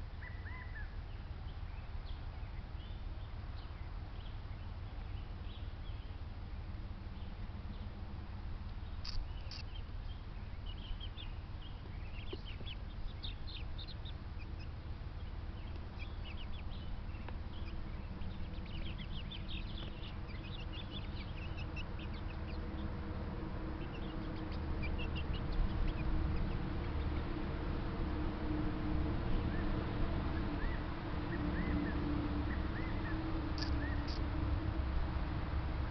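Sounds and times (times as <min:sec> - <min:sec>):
birds chirping: 0:00.0 - 0:28.4, 0:29.3 - 0:34.6
steady low rumble: 0:00.0 - 0:35.9.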